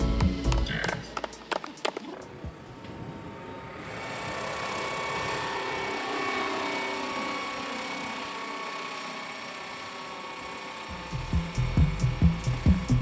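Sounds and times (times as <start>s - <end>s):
model helicopter flying: 0.0s - 13.0s.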